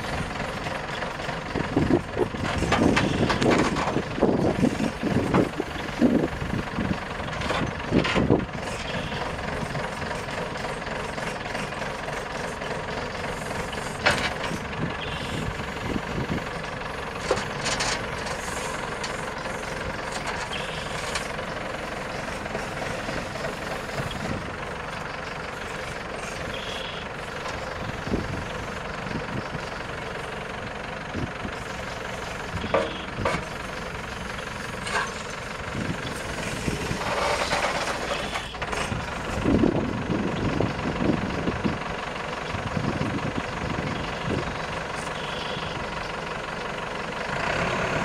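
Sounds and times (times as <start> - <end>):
diesel backhoe running: 0.0 - 48.0.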